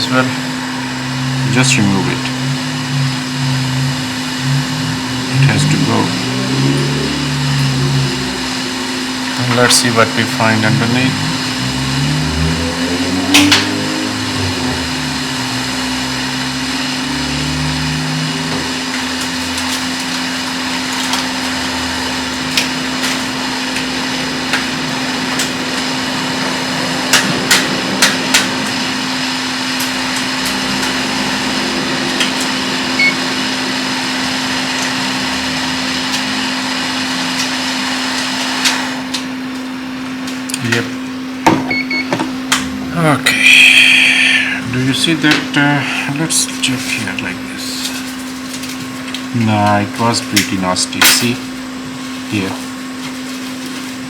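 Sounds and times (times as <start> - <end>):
hot-air station blowing: 0.0 - 54.0.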